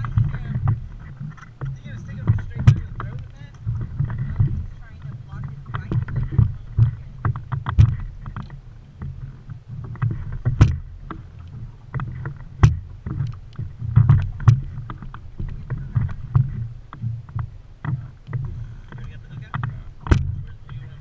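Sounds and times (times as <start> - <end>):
knocks on boat deck: 0.0 - 11.3, 11.9 - 21.0
steady low rumble: 0.0 - 21.0.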